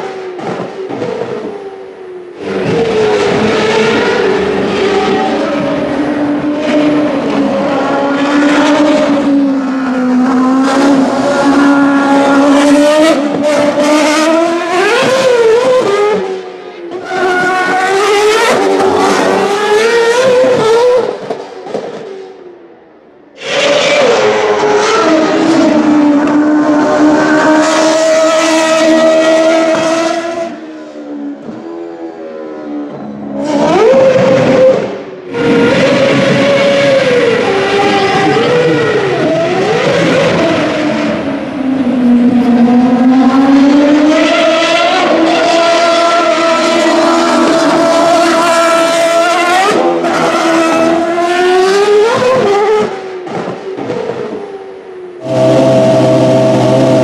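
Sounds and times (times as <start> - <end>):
racing car engine revving: 2.3 - 22.4, 23.4 - 54.6, 55.2 - 57.0.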